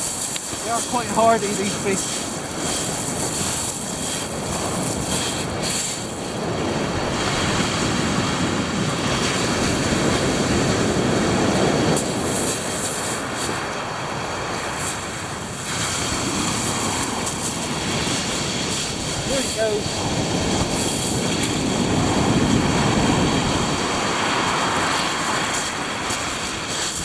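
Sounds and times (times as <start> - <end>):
sea waves breaking on shingle: 0.0 - 27.0
wind buffeting microphone: 0.0 - 27.0.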